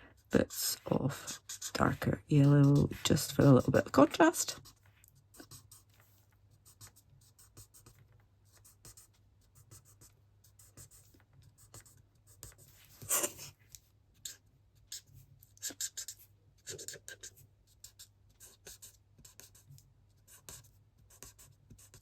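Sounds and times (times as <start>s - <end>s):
marker scratching on card: 0.2s - 13.5s, 14.2s - 22.0s.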